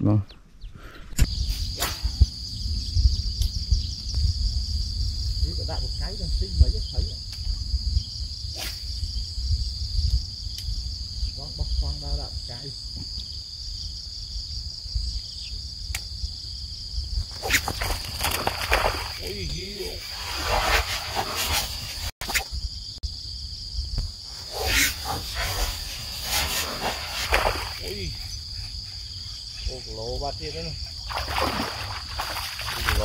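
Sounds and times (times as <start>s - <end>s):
insects trilling: 0.1s - 33.0s.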